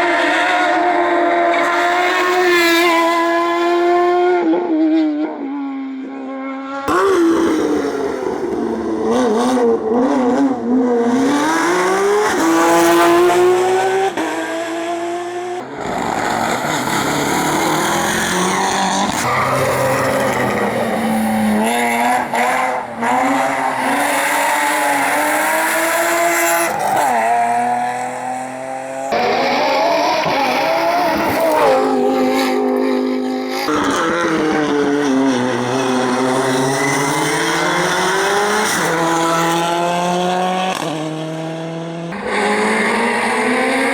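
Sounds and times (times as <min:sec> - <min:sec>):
racing car engines at full throttle: 0:00.0 - 0:43.9.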